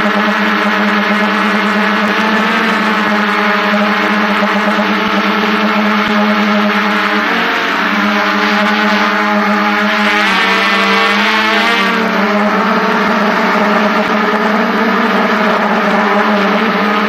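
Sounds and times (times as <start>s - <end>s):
drone motors buzzing: 0.0s - 17.0s.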